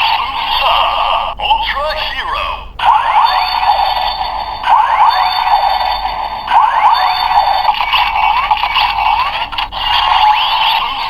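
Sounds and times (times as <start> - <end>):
toy electronic sound effect: 0.0 - 11.0.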